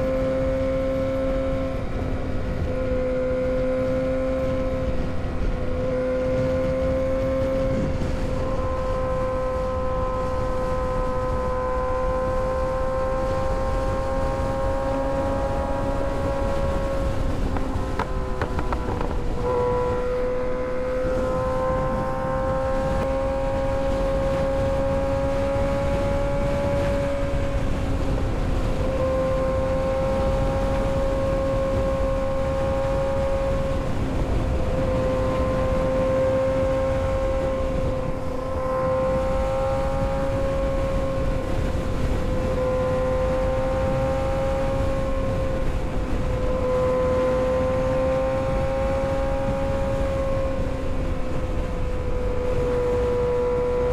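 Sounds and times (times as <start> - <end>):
motorcycle engine cruising: 0.0 - 53.9
wind rushing over microphone: 0.0 - 53.9.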